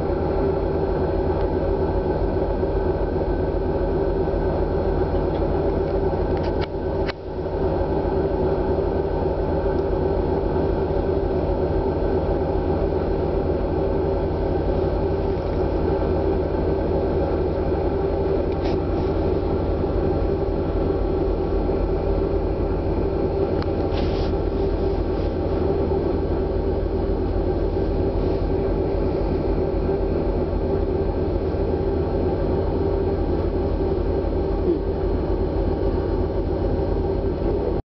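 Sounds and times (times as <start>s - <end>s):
ferry engines droning: 0.0s - 37.8s.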